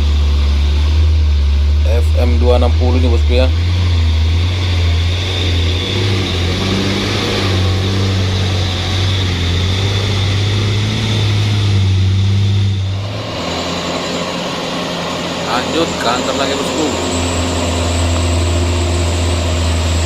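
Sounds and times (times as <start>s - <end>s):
diesel truck engine droning: 0.0s - 20.0s.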